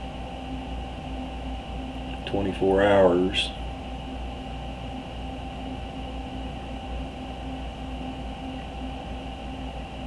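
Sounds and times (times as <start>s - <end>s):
faint whining tones: 0.0s - 10.0s
room hum and hiss: 0.0s - 10.0s.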